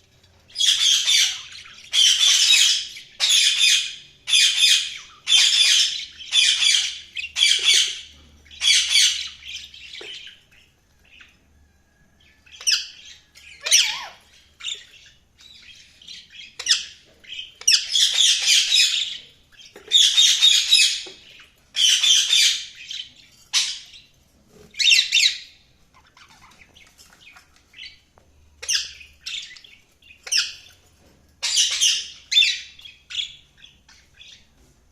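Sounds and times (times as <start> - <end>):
budgerigars chirping: 0.4 - 11.4, 12.2 - 30.8, 31.4 - 34.6.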